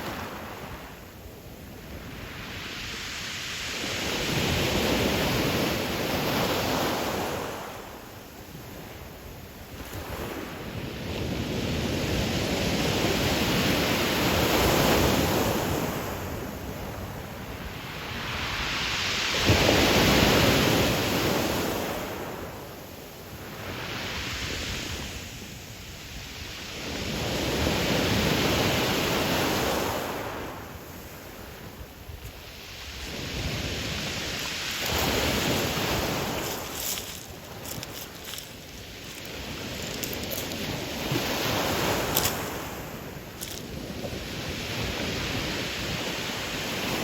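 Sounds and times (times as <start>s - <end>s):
waves breaking on pebble beach: 1.9s - 7.8s, 9.7s - 17.1s, 17.8s - 22.4s, 26.7s - 47.0s.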